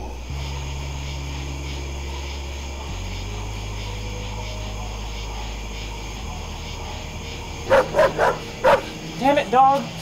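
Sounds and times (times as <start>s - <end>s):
low ambient suspense drone: 0.0s - 10.0s.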